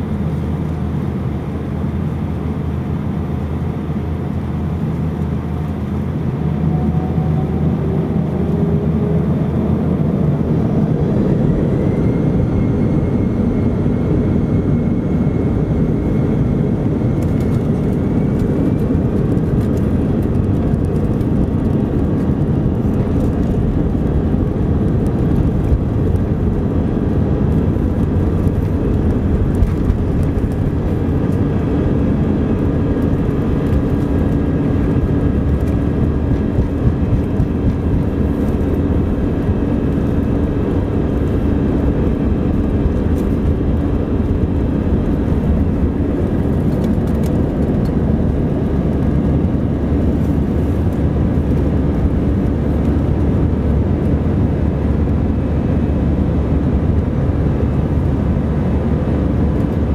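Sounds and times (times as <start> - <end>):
jet engines whining: 0.0 - 58.4
heavy engine rumble: 0.0 - 59.9.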